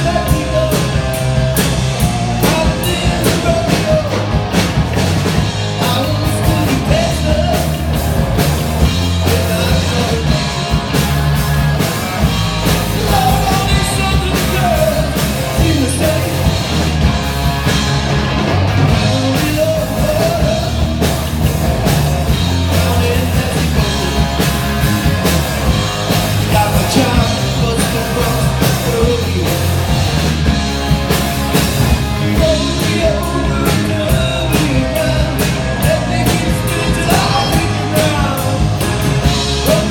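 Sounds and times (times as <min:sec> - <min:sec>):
rock band music: 0:00.0 - 0:39.9.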